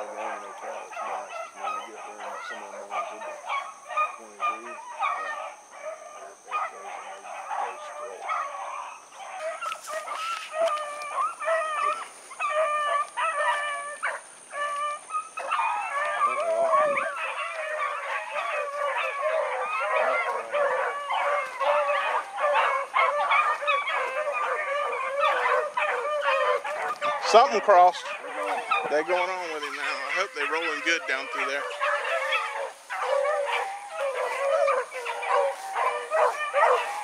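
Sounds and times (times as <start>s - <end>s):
hounds baying: 0.0s - 37.0s.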